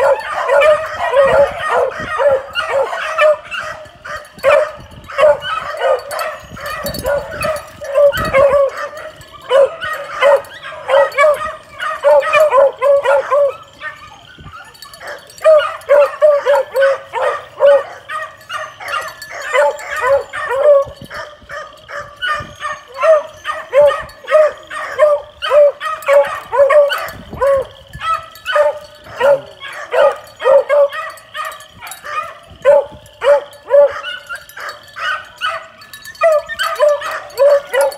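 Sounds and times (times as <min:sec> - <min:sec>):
puppies yipping and baying: 0:00.0 - 0:37.9.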